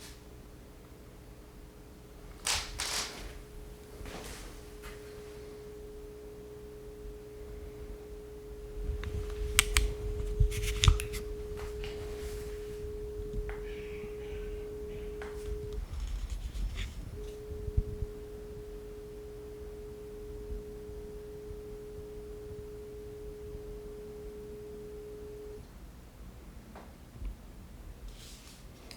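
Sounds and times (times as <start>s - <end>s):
projector whine: 0.0s - 26.2s.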